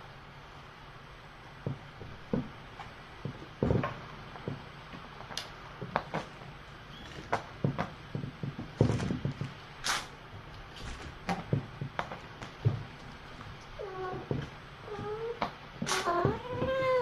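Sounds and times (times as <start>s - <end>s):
knocks and thumps: 1.6s - 6.5s, 7.1s - 9.7s, 10.8s - 17.0s.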